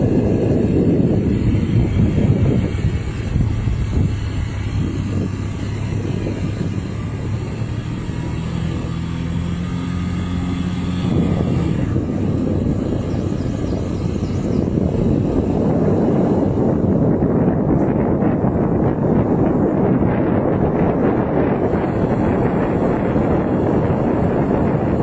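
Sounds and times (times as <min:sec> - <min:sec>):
road noise: 0:00.0 - 0:25.0
vehicle engine droning: 0:00.0 - 0:25.0.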